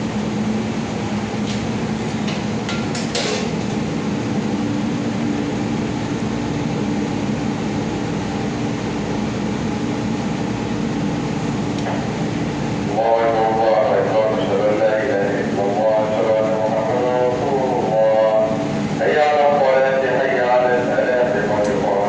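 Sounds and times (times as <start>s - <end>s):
mechanical rumble with low hum: 0.0s - 22.0s.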